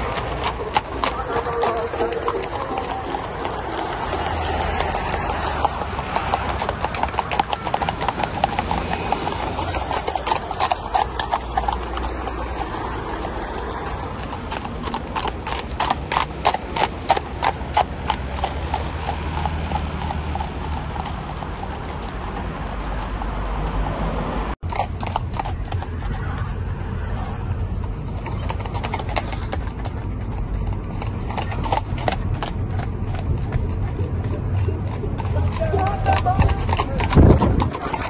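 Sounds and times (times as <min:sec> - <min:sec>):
hooves clip-clopping on asphalt: 0:00.0 - 0:38.0.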